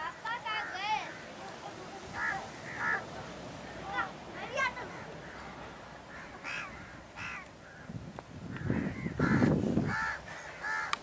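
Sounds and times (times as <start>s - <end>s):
crows cawing: 0.1s - 11.0s.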